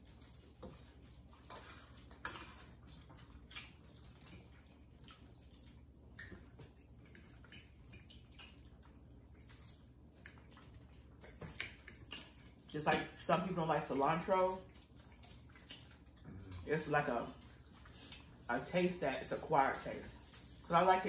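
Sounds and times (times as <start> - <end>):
soft chewing: 0.0 - 19.4
low room hum: 0.0 - 21.0.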